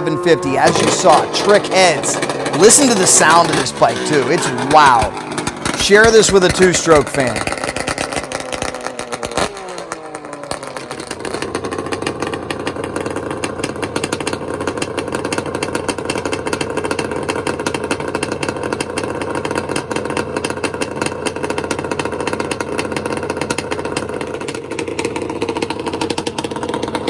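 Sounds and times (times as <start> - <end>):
two-stroke motorcycle engine running: 0.0 - 27.0.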